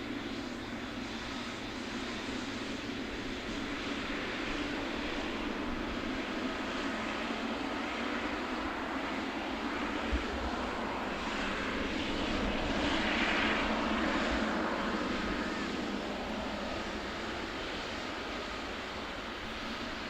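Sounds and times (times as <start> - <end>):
aircraft engines passing: 0.0 - 20.0.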